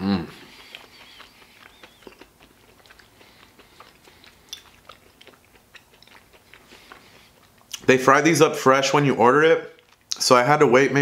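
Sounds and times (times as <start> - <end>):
person chewing crispy food: 0.3 - 7.9, 9.0 - 10.4.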